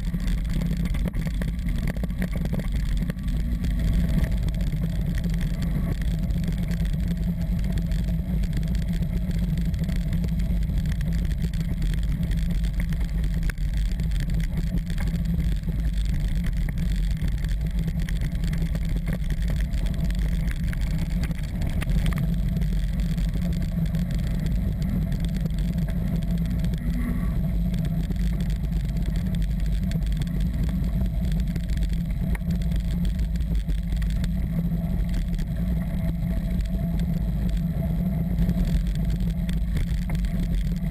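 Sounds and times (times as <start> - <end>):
bike tyre vibration on gravel: 0.0 - 40.9.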